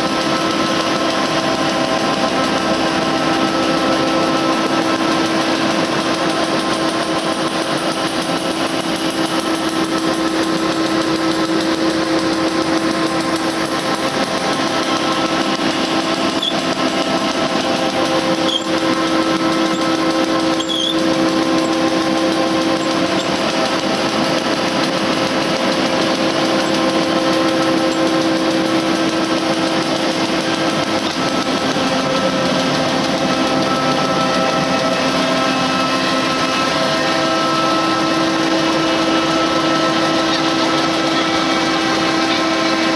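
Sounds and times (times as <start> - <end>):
printing press humming: 0.0 - 42.9.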